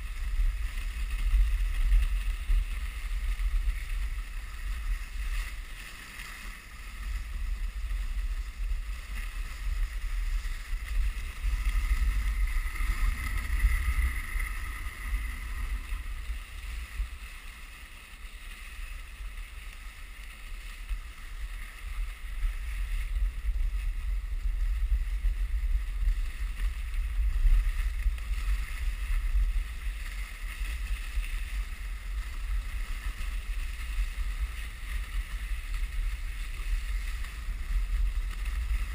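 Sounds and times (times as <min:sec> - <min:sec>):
sled runners rushing on snow: 0:00.0 - 0:38.9
wind buffeting microphone: 0:00.0 - 0:38.9.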